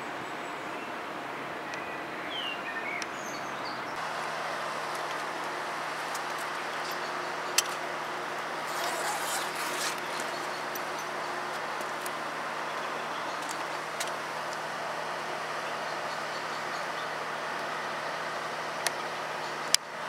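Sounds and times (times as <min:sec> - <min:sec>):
birds chirping: 0:00.0 - 0:20.0
low engine hum: 0:00.0 - 0:20.0
steady outdoor rumble: 0:00.0 - 0:20.0.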